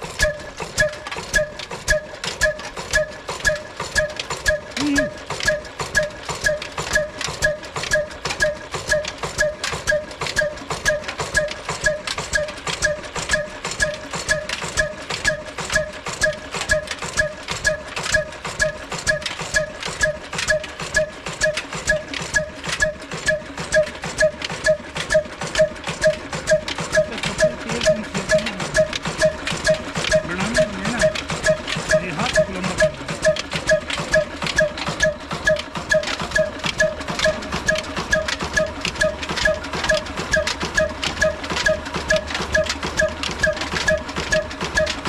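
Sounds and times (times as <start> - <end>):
diesel engine exhaust beating: 0.0 - 45.0.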